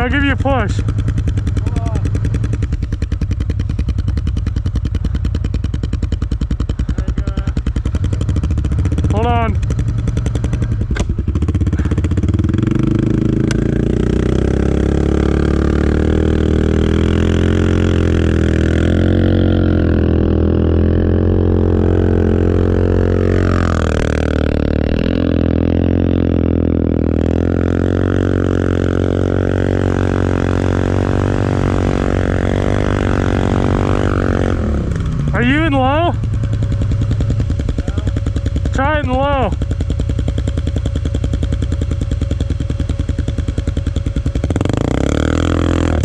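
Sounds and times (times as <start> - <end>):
atv engine revving hard: 0.0 - 46.0.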